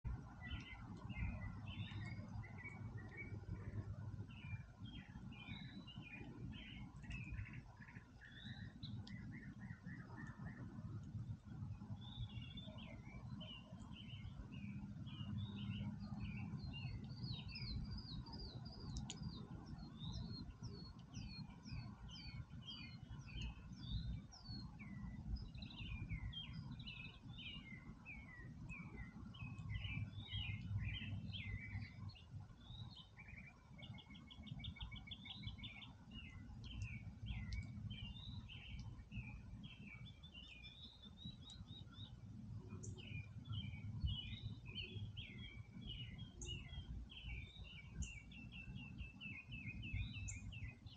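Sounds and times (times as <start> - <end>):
songbirds singing and chirping: 0.0 - 50.9
bird trill: 0.2 - 50.9.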